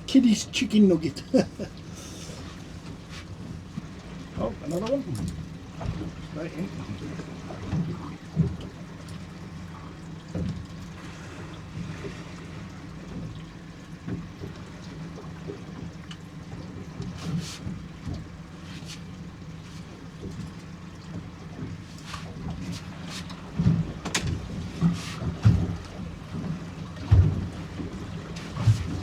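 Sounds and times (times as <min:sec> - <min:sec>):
steady low hum: 0:00.0 - 0:29.0
sea slapping against boat hull: 0:02.1 - 0:29.0.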